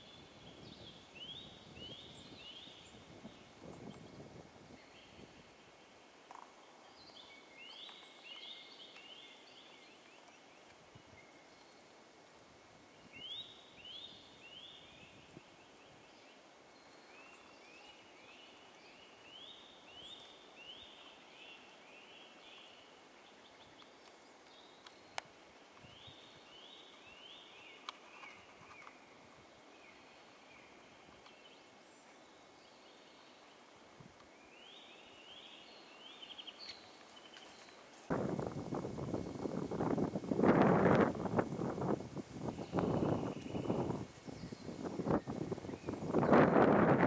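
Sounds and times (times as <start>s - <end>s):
faint background hiss: 0.0s - 47.0s.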